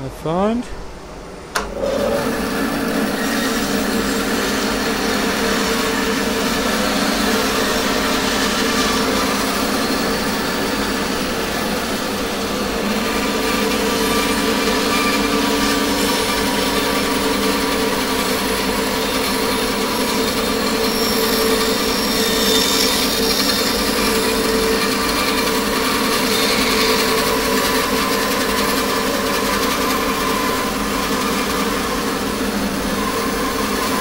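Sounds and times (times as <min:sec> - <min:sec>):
bandsaw cutting wood: 0:01.8 - 0:34.0.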